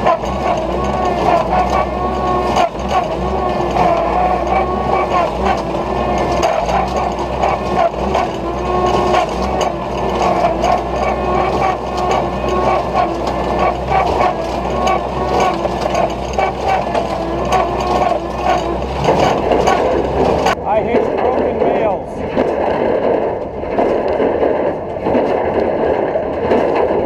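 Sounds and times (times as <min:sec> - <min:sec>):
baler mechanism clattering: 0:00.0 - 0:27.0
tractor engine running: 0:00.0 - 0:27.0.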